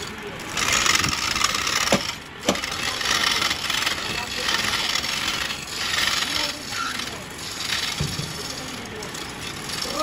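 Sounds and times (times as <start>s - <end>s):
chisel scraping spinning wood: 0.0s - 10.0s.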